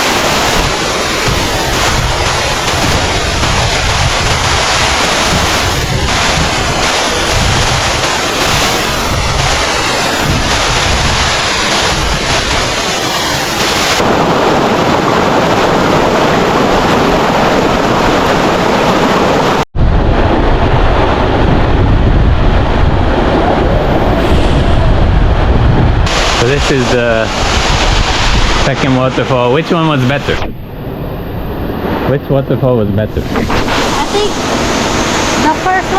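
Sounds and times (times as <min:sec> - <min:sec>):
waterfall rushing: 0:00.0 - 0:19.6, 0:23.2 - 0:30.4, 0:33.2 - 0:35.9
wind buffeting microphone: 0:00.0 - 0:35.9.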